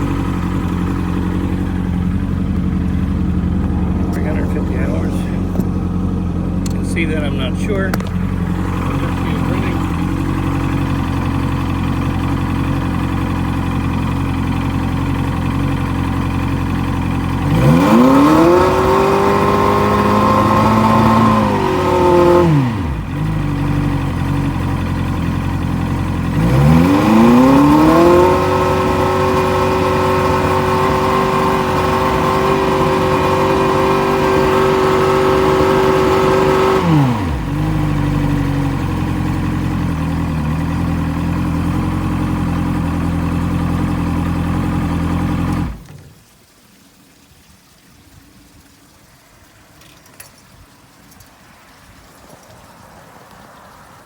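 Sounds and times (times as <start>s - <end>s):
outboard engine idling and revving: 0.0s - 46.4s.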